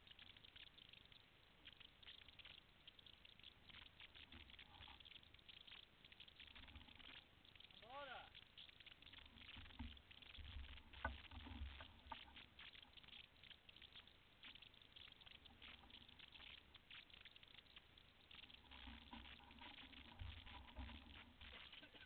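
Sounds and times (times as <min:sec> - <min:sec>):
faint crackling: 0:00.0 - 0:22.0.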